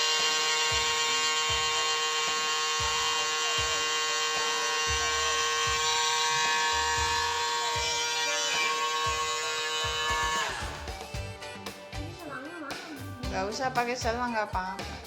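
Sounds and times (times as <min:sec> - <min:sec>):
electric pump buzzing: 0:00.0 - 0:13.8.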